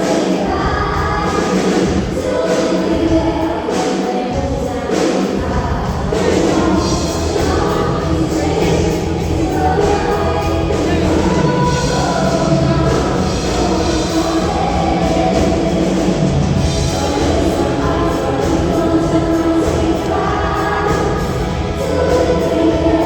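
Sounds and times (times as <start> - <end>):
pop band music with singing: 0.0 - 23.0.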